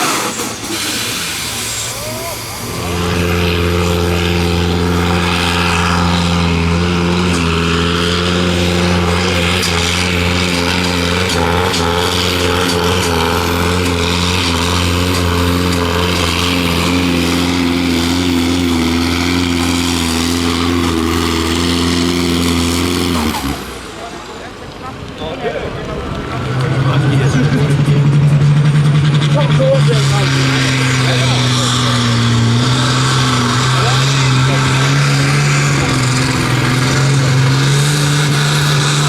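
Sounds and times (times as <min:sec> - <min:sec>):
tractor engine at high revs: 0:00.0 - 0:39.0.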